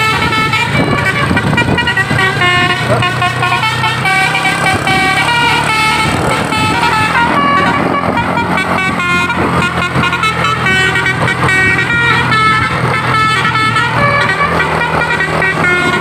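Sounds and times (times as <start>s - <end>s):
bus engine humming: 0.0s - 16.0s
multi-tone bus horn playing a tune: 0.0s - 16.0s.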